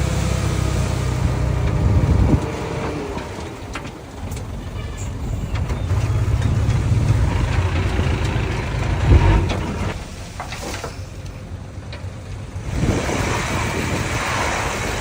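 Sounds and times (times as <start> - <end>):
heavy diesel engine working: 0.0 - 15.0.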